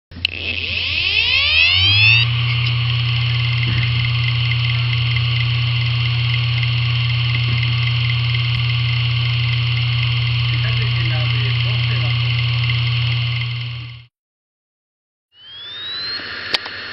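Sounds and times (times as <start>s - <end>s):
hard disk drive spinning: 0.1s - 14.1s, 15.4s - 16.9s.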